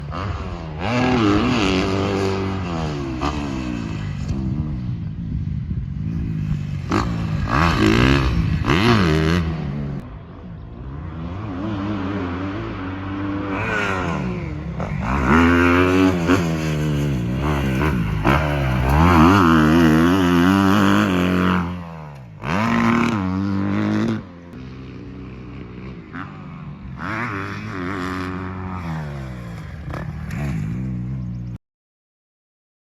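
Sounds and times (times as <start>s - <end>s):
dirt bike engines revving: 0.0s - 31.6s.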